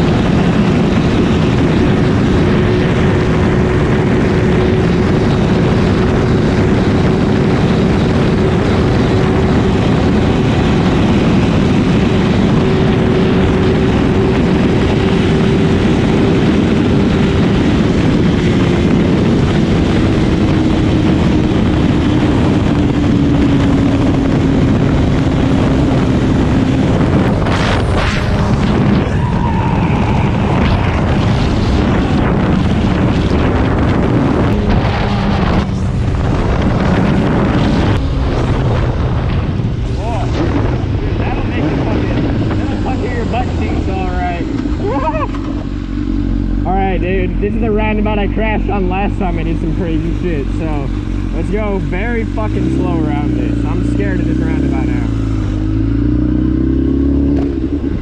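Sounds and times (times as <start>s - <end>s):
motorcycle engine at speed: 0.0s - 58.0s
wind rush on microphone: 0.0s - 58.0s.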